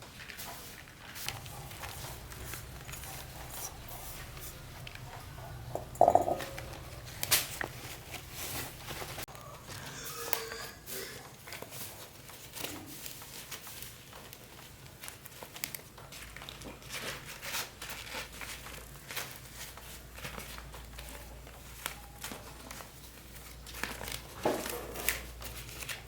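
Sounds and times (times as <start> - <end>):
crinkling and rustling: 0.0 - 9.8, 11.2 - 26.0.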